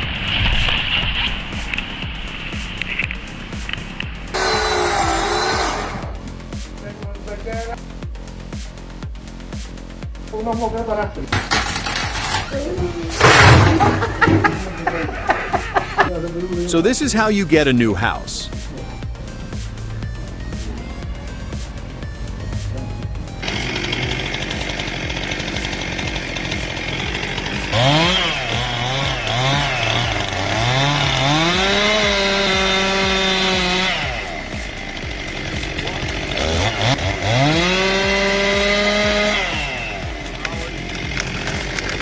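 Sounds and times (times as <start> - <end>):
chainsaw revving: 0.0 - 6.8, 11.2 - 42.0.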